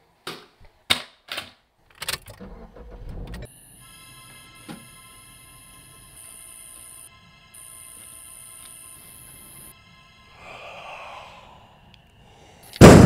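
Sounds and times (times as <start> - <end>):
electronic drone: 2.4 - 12.9.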